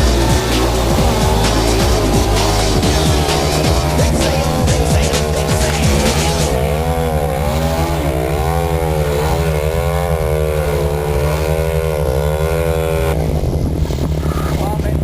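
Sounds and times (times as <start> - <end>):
model plane engine swooping: 0.0 - 14.8
low rumble: 0.0 - 15.0.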